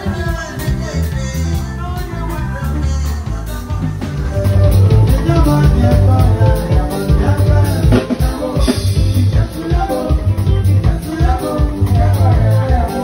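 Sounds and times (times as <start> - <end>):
music with drum beat: 0.0 - 13.0.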